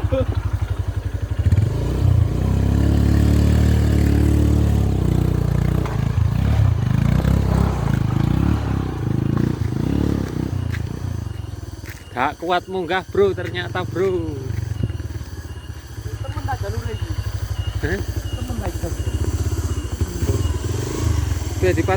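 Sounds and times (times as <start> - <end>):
motorcycle engine revving hard: 0.0 - 11.6, 12.9 - 21.9.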